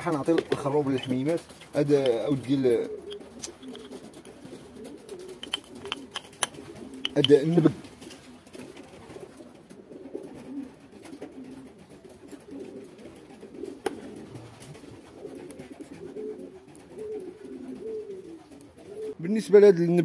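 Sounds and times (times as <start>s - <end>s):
pigeons cooing: 0.0s - 19.2s.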